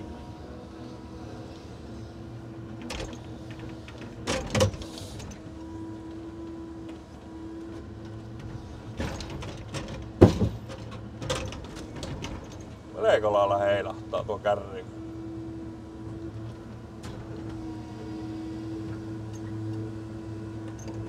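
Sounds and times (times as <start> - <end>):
engine low rumble: 0.0 - 21.0.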